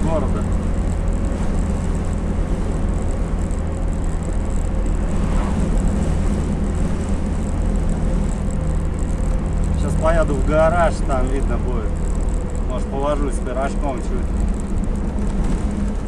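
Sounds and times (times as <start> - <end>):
road noise: 0.0 - 16.0
van engine drone: 0.0 - 16.0.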